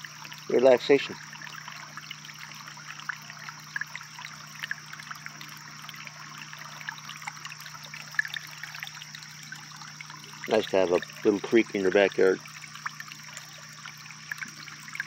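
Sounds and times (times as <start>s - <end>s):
creek trickling over rocks: 0.0s - 15.0s
water splashes and drips: 0.0s - 15.0s.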